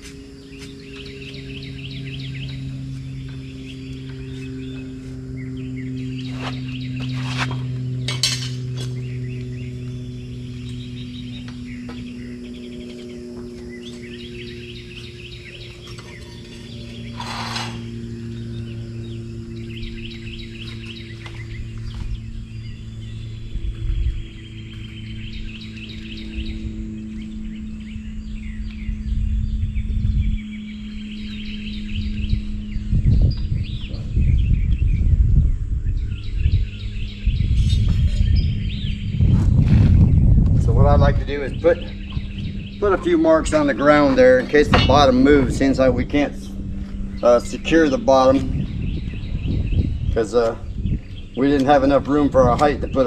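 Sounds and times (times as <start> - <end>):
low mechanical hum: 0.0 - 53.0
small birds chirping: 0.0 - 53.0
wind on microphone: 0.0 - 53.0.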